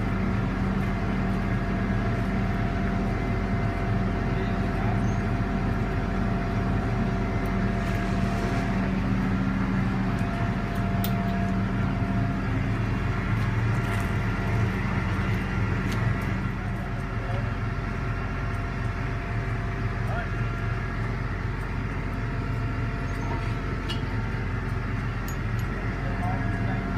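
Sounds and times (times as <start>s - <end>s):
crane engine running: 0.0s - 26.9s.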